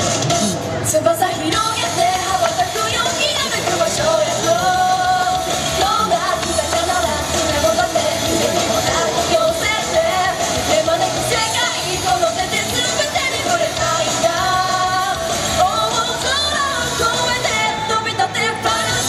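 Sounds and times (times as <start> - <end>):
band with electric guitar: 0.0 - 19.0
woman singing pop-rock: 0.8 - 19.0.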